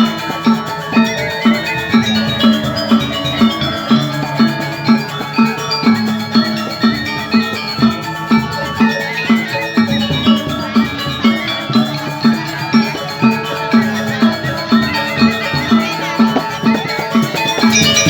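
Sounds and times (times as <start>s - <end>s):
gamelan ensemble playing: 0.0s - 18.0s.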